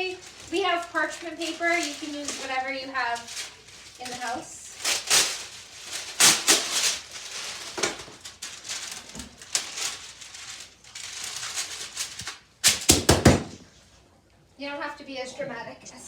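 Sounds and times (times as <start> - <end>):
rustling and crinkling handling noise: 0.0 - 14.5.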